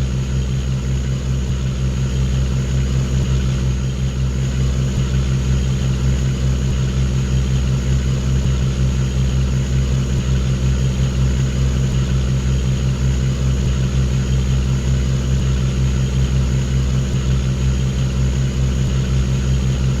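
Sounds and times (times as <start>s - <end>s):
boat diesel engine throbbing: 0.0s - 20.0s.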